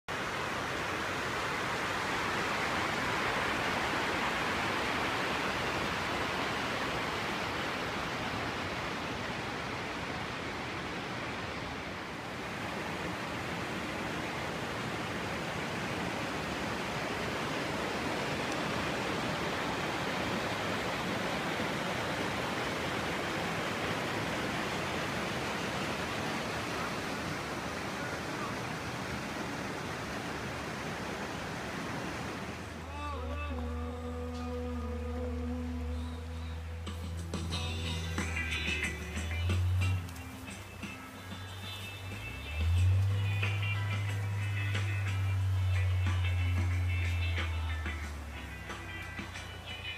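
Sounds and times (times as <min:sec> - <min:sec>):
river water rushing over rocks: 0:00.1 - 0:49.9.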